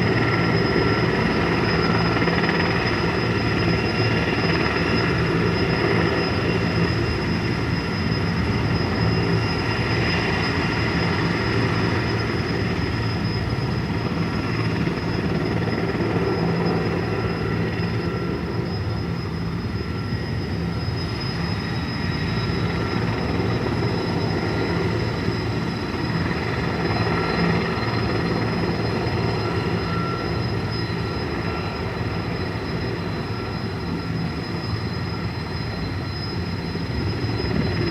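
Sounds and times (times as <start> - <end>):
helicopter running: 0.0 - 37.9.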